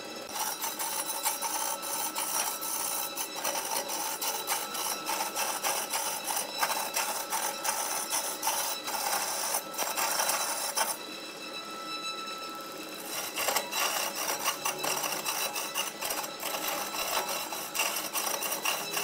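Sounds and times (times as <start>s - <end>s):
chisel scraping wood on lathe: 0.3s - 11.0s, 13.0s - 19.0s.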